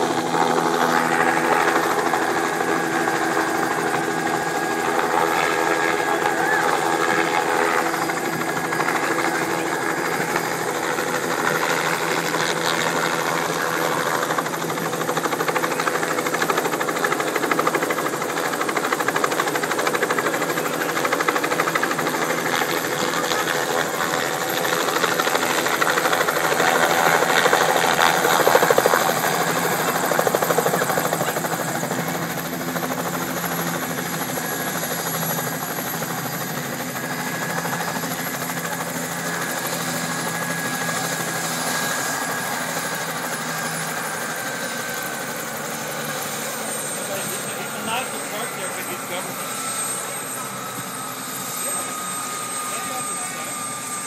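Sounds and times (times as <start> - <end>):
helicopter rotor beat: 0.0 - 54.0
helicopter turbine engine: 0.0 - 54.0.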